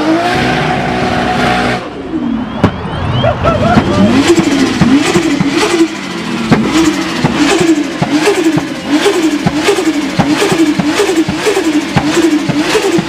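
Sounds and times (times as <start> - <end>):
turbo engine revving: 0.0 - 13.0.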